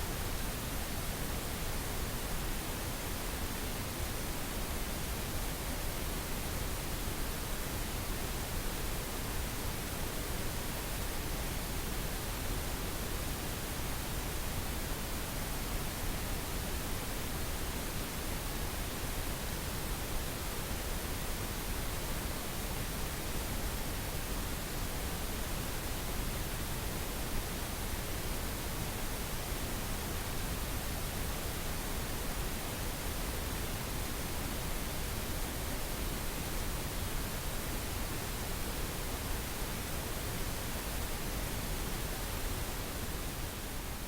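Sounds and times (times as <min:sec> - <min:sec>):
steady pink noise hiss: 0:00.0 - 0:44.0.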